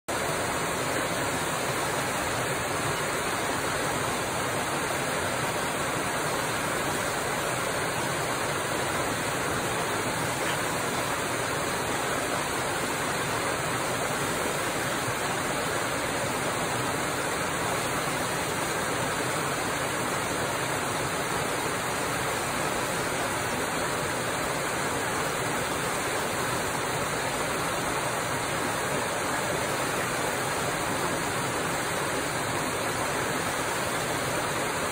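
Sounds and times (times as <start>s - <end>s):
water rushing down waterfall: 0.1s - 34.9s.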